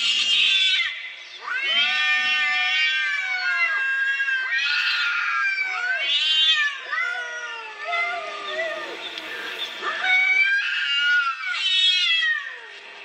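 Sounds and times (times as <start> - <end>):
cats caterwauling: 0.0 - 12.8.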